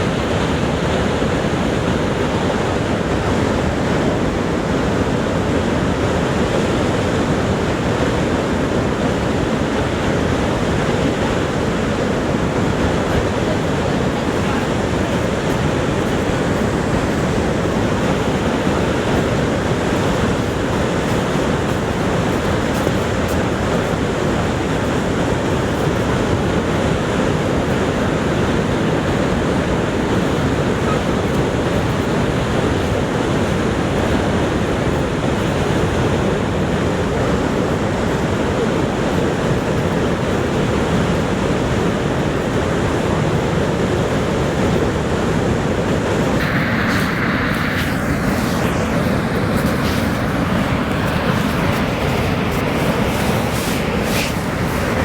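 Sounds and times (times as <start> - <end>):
rush of falling water: 0.0 - 55.0.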